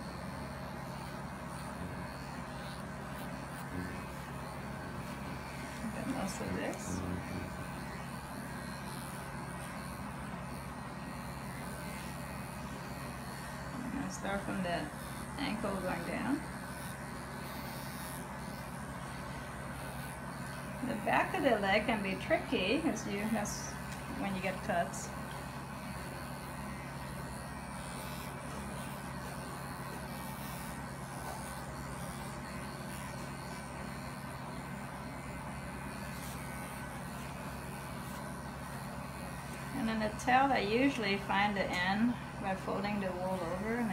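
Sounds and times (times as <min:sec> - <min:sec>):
electric clippers humming: 0:00.0 - 0:43.9.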